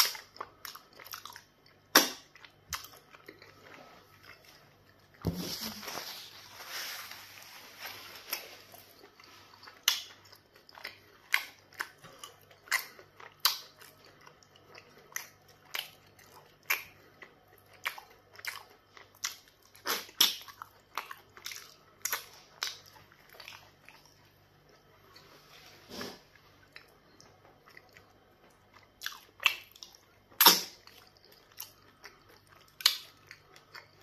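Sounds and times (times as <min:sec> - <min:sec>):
wet chewing and mouth clicks: 0:00.0 - 0:05.2, 0:08.3 - 0:25.3, 0:26.5 - 0:34.0.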